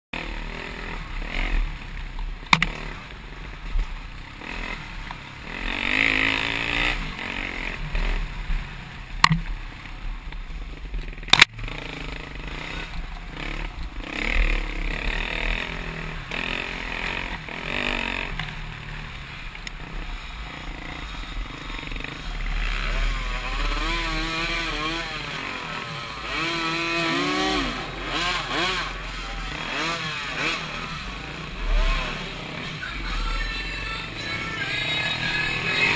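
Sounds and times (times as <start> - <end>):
dirt bike engine revving: 0.2 - 35.9.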